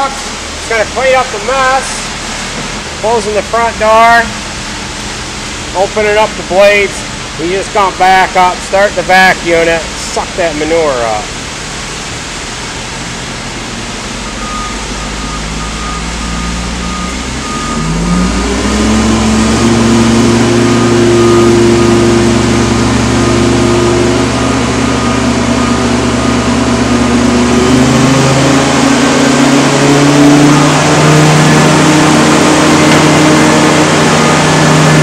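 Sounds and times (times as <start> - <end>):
truck engine and vacuum pump: 0.0 - 35.0.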